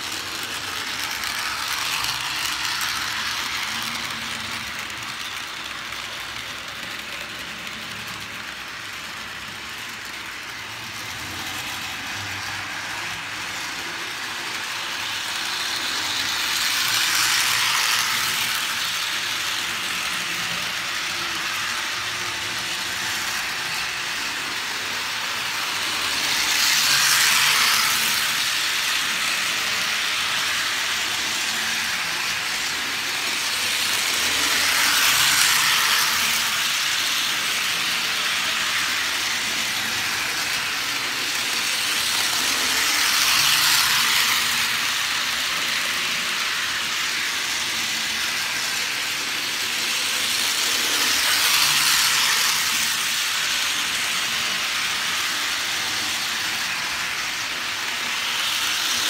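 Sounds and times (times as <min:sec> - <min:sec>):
model train wheels rattling on rails: 0:00.0 - 0:59.0
small electric motor whirring: 0:00.0 - 0:59.0.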